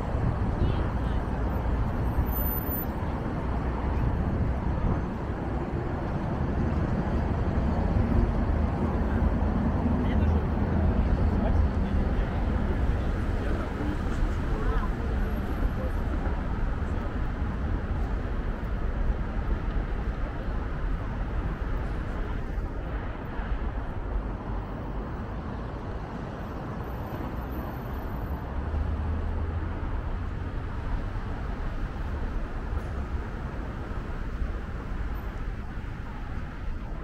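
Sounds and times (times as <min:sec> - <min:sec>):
passing road traffic rumble: 0:00.0 - 0:37.0.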